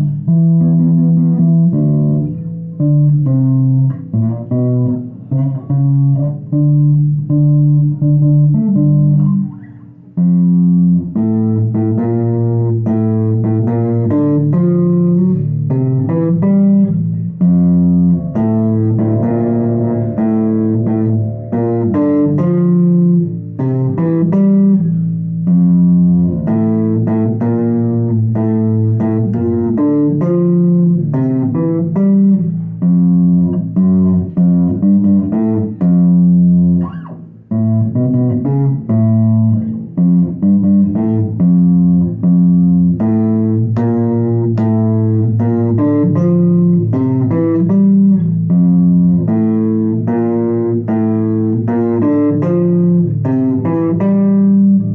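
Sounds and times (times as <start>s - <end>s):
electric bass guitar plucked notes: 0.0s - 54.9s.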